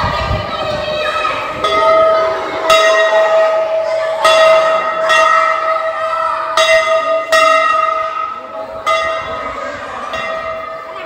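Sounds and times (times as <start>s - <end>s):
large brass bell clanging: 1.5s - 11.0s.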